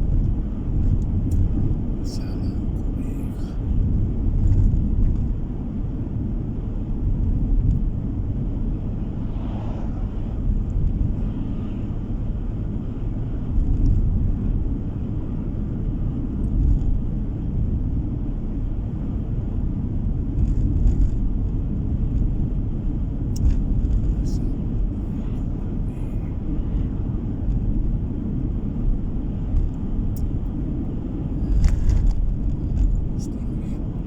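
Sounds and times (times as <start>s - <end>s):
car engine and tyre noise: 0.0s - 34.0s.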